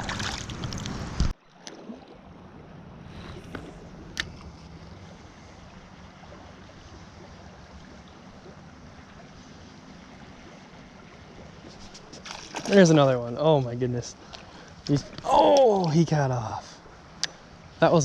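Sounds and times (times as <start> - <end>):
river water flowing: 0.0 - 18.0
water splashing: 0.0 - 18.0.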